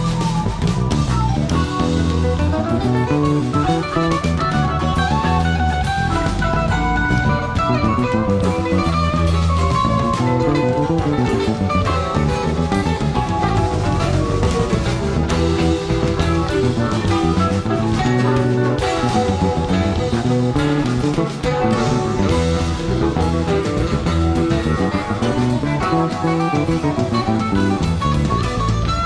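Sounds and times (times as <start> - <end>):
guitar-led rock music: 0.0 - 29.0.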